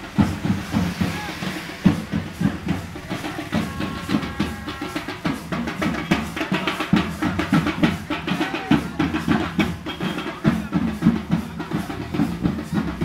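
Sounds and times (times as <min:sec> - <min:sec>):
fast loud drumming with music: 0:00.0 - 0:13.0.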